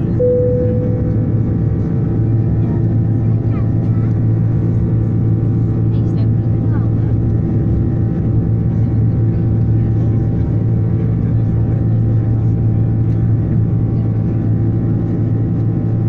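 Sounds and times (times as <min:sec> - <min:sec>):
jet engine drone from cabin: 0:00.0 - 0:16.0.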